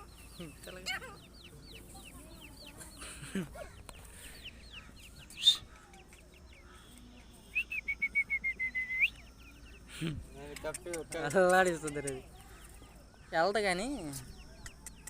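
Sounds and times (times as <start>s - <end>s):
francolin calling: 0.0s - 15.0s.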